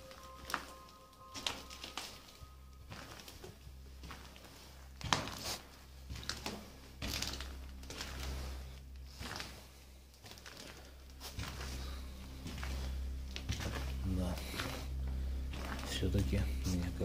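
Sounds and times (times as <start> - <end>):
footsteps crunching over debris: 0.0 - 17.0
low steady rumble: 2.2 - 17.0.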